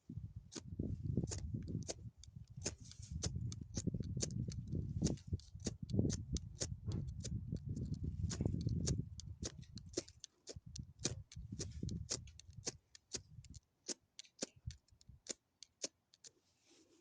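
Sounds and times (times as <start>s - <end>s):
campfire crackling: 0.8s - 14.7s.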